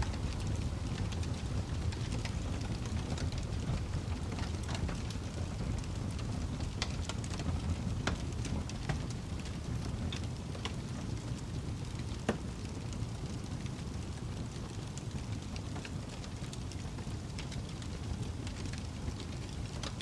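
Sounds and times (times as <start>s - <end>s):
firewood crackling and popping: 0.0s - 20.0s.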